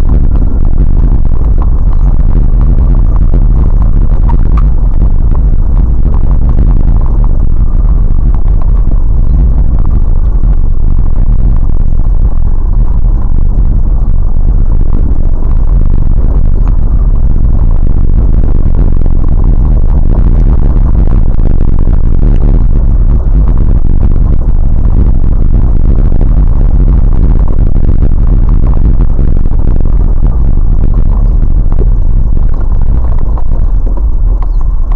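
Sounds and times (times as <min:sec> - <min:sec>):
vehicle cabin rumble: 0:00.0 - 0:34.9.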